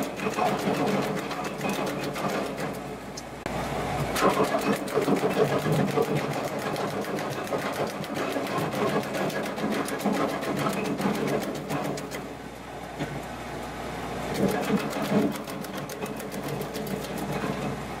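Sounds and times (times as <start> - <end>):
wood chopper chopping clicks: 0.0 - 3.3, 4.2 - 12.3, 14.3 - 17.6.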